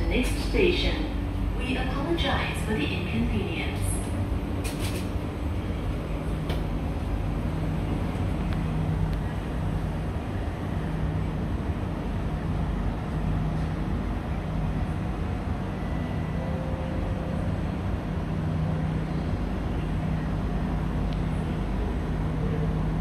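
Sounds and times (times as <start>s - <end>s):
stationary train humming: 0.0s - 23.0s.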